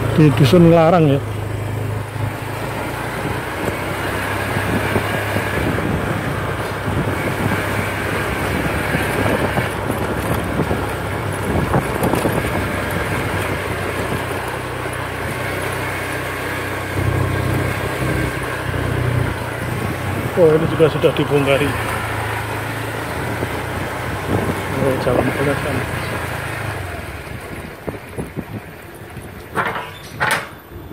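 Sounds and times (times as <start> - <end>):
road noise: 0.0 - 30.9
small motorcycle engine running: 0.0 - 30.9
wind noise: 2.0 - 15.6, 16.9 - 30.9.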